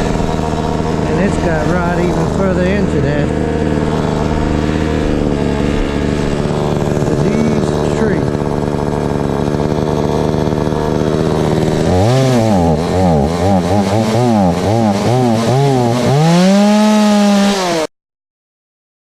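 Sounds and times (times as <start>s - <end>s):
chainsaw engine revving: 0.0s - 17.9s.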